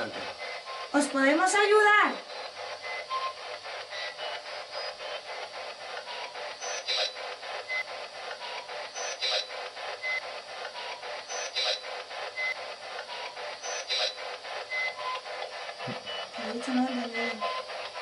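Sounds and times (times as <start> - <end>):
radio static pulses: 0.0 - 18.0.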